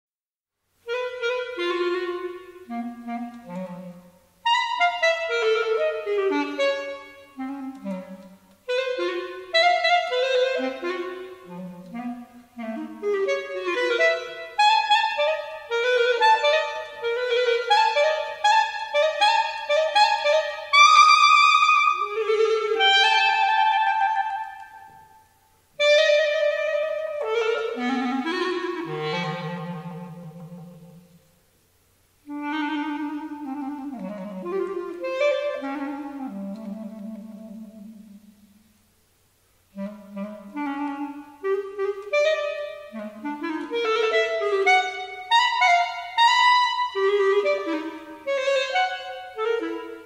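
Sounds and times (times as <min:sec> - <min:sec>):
solo clarinet playing: 0:00.8 - 0:38.7, 0:39.3 - 0:50.0.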